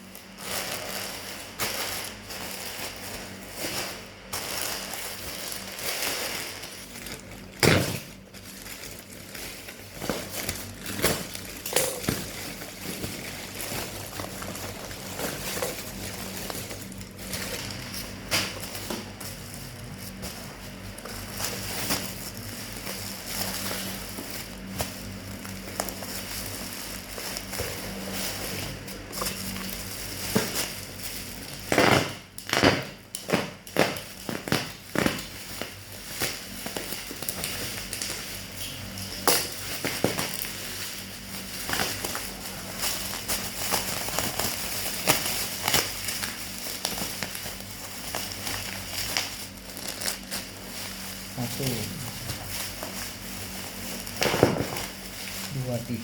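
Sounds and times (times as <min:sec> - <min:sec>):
package rustling and crinkling: 0:00.0 - 0:56.0.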